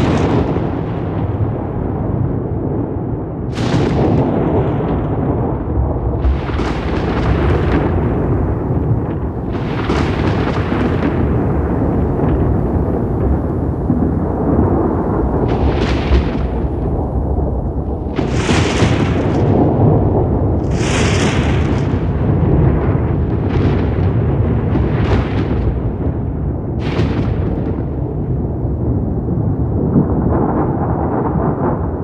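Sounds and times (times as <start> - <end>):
crackling thunderclaps: 0.0 - 32.0
thunder rumbling: 0.0 - 32.0.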